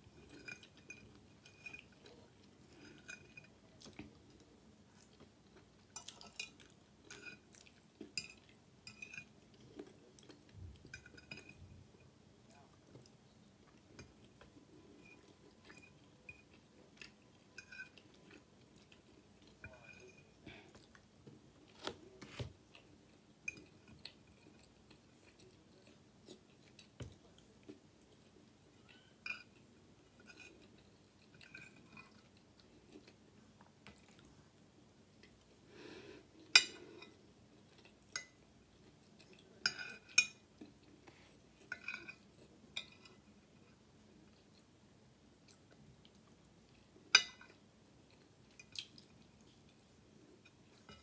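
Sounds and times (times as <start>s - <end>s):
soft chewing: 0.0s - 51.0s.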